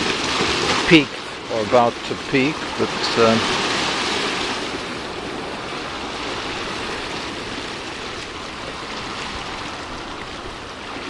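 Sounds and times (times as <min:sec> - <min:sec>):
sea surf washing up beach: 0:00.0 - 0:11.0.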